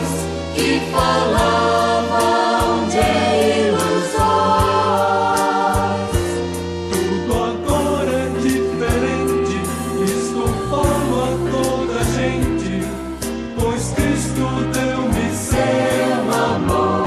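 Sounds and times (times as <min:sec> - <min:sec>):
gospel choir with beat: 0:00.0 - 0:17.0.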